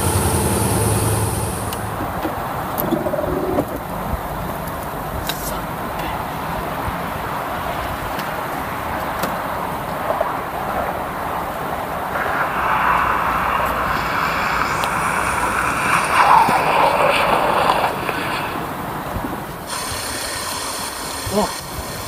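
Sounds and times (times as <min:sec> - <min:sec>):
car on snowy road: 0:00.0 - 0:22.0.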